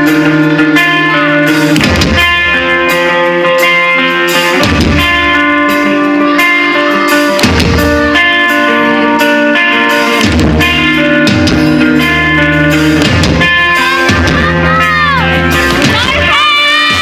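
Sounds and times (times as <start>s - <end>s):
bass: 0.0s - 17.0s
drums: 0.0s - 17.0s
electric guitar playing: 0.0s - 17.0s.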